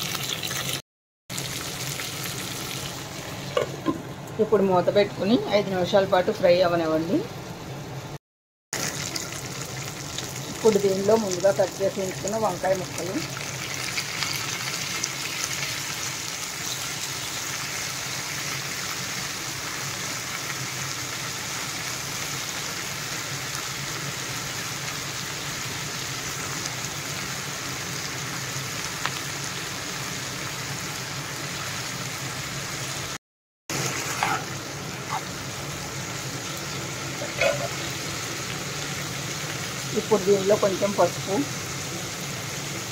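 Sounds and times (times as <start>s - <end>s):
vegetables sizzling in oil: 0.0s - 8.1s, 8.8s - 42.9s.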